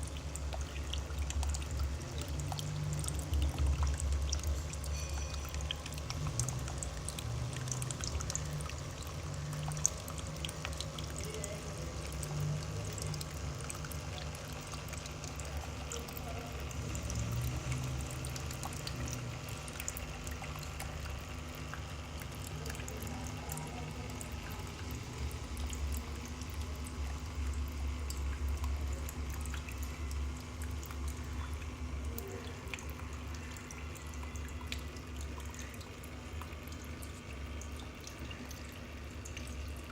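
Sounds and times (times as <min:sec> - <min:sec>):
water drips and splashes: 0:00.0 - 0:39.9
water trickling in a fountain: 0:00.0 - 0:39.9.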